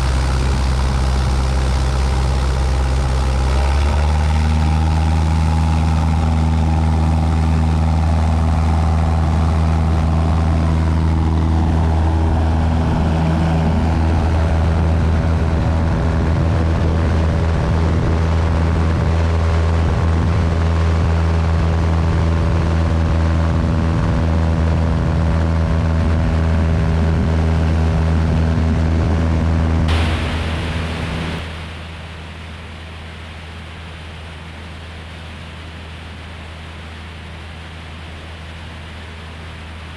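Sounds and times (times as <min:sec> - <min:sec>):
airflow noise: 0:00.0 - 0:39.9
propeller plane engine running: 0:00.0 - 0:39.9.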